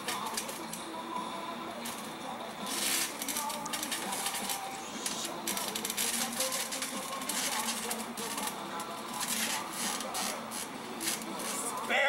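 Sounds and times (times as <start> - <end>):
trampoline springs rattling and creaking: 1.8 - 12.0.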